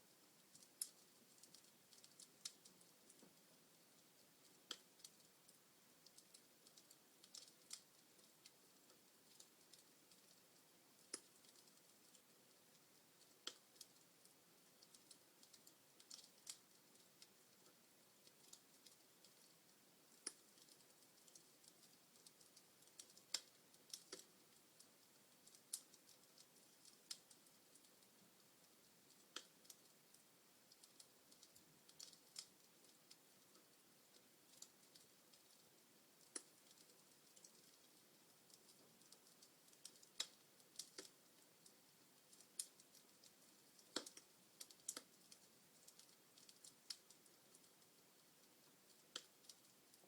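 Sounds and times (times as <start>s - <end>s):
faint steady hiss: 0.0s - 50.0s
burning logs popping: 0.4s - 50.0s.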